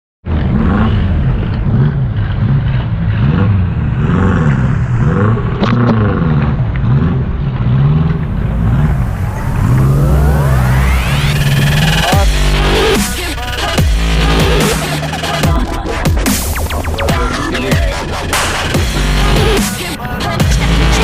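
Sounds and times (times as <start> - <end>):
off-road vehicle engine revving: 0.2 - 21.0
rising whine: 1.2 - 21.0.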